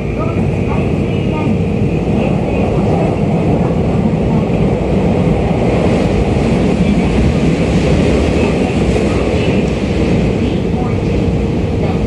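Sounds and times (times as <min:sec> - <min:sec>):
subway wheels rumbling on rail: 0:00.0 - 0:12.0.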